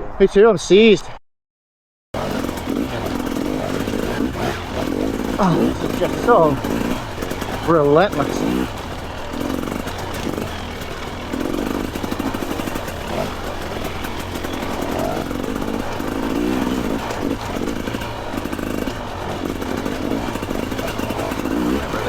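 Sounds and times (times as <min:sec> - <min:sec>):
dirt bike engine revving: 0:02.2 - 0:22.0.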